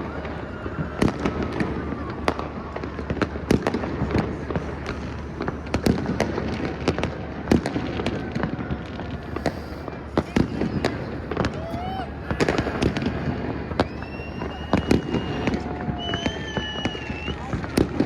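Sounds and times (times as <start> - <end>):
fireworks bangs: 0.0 - 18.0
rumble of fireworks bursts: 0.0 - 18.0.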